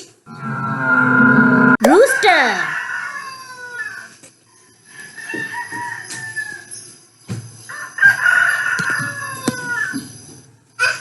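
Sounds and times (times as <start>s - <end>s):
rooster crowing: 0.3s - 6.9s, 7.7s - 10.2s.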